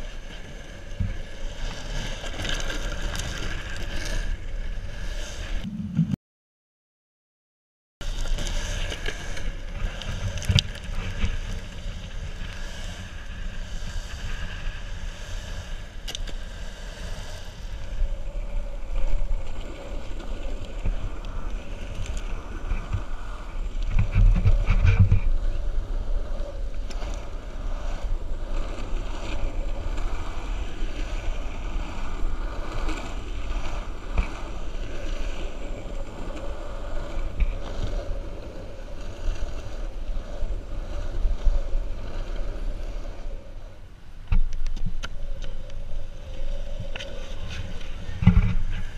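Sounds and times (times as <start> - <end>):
longboard wheels rolling on asphalt: 0.0 - 6.2, 8.0 - 48.9
wind noise on microphone: 8.0 - 48.9.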